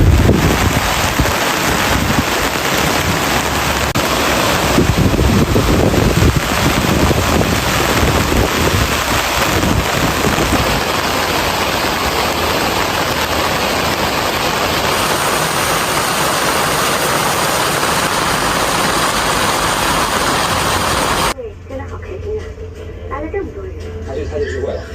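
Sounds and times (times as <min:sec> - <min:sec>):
heavy rain on a roof: 0:00.0 - 0:21.4
low rumble: 0:00.0 - 0:22.2.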